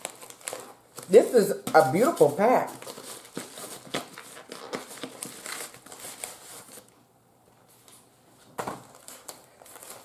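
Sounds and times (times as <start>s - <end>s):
bubble mailer crinkling and tearing: 0.0s - 6.9s, 8.8s - 10.0s.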